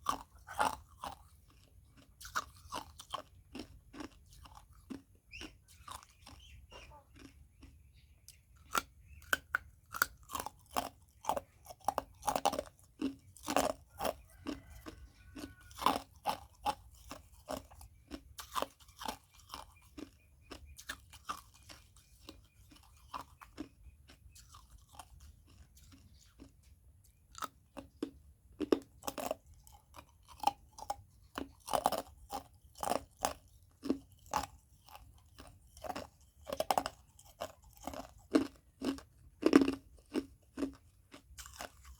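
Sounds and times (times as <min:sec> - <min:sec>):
ice being chewed: 0:00.0 - 0:41.9.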